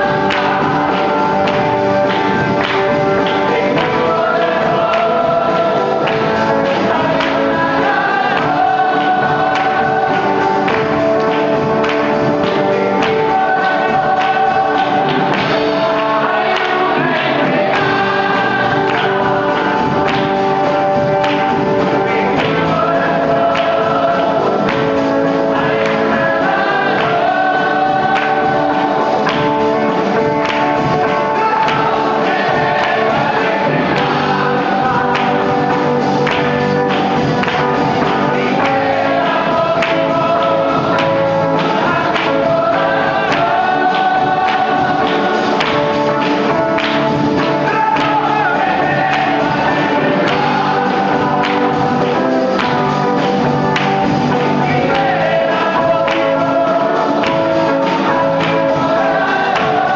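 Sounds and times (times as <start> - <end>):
choir singing gospel: 0.0 - 59.9
steady percussion beat: 0.0 - 59.9.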